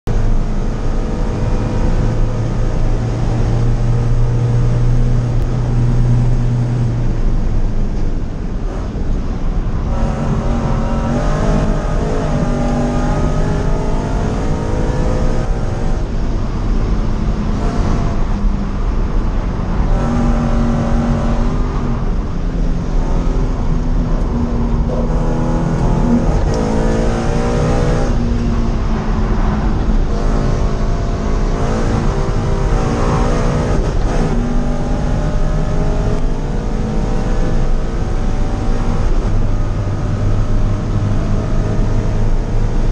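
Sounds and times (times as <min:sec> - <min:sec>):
car engine revving: 0:00.1 - 0:42.9.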